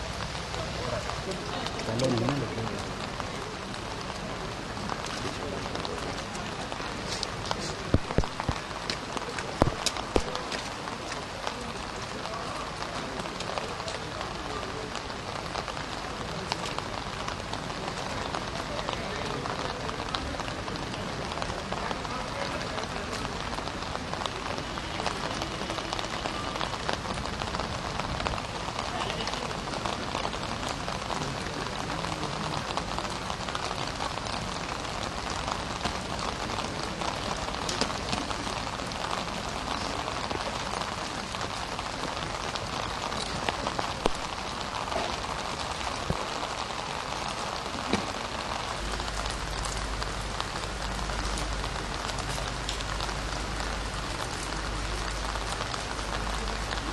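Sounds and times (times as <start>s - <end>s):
crackling hiss with ticks: 5.0s - 56.9s.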